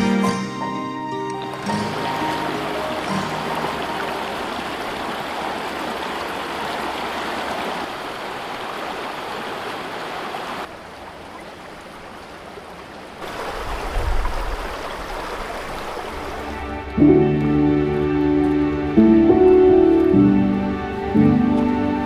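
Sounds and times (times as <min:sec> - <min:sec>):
river water rushing: 0:01.3 - 0:22.0.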